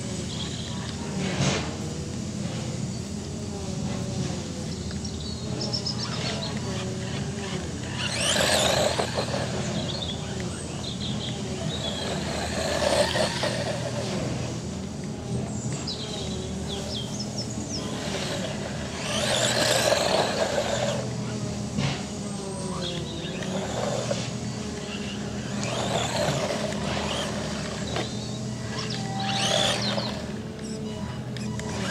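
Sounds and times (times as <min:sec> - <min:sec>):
rc car motor whine: 0:00.0 - 0:31.9.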